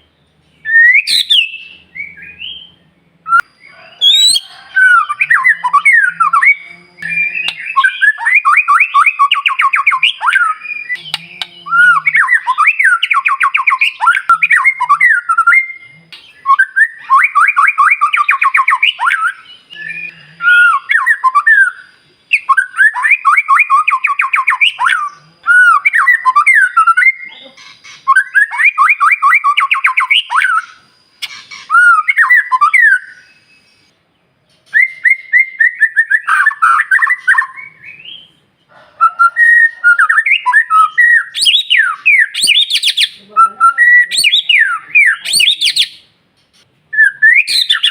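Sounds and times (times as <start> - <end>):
bird singing rattling phrases: 0.0 - 47.9.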